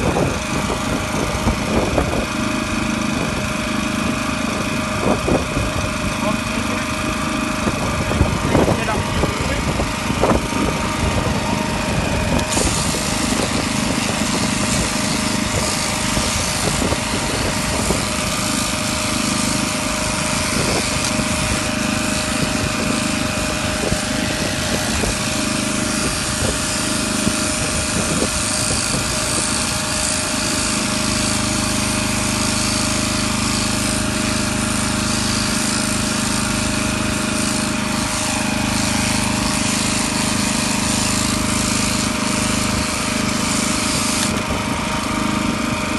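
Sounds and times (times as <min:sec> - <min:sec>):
electric shears buzzing: 0:00.0 - 0:45.9.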